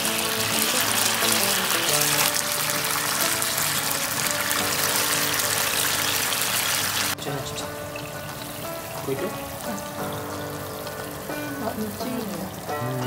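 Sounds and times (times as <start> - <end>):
fish sizzling in a frying pan: 0.0 - 12.8
background music: 0.0 - 13.0.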